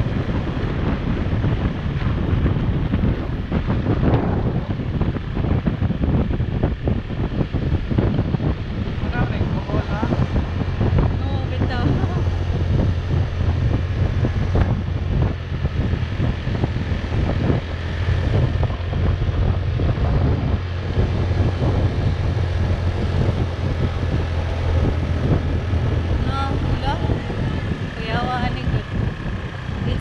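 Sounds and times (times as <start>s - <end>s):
motorbike engine drone: 0.0s - 30.0s
wind buffeting microphone: 0.0s - 30.0s.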